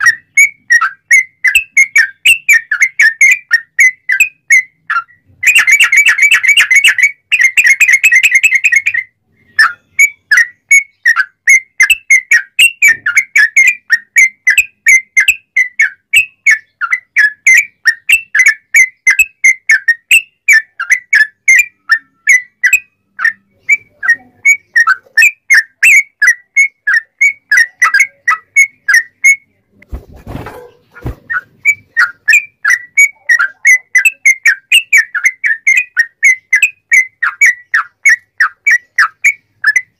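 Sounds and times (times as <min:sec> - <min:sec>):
bird trilling and whistling: 0:00.0 - 0:39.9.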